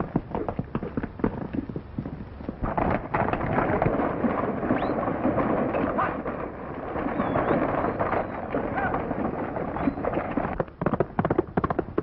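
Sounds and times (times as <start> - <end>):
horses hoofbeats galloping: 0.0 - 12.0.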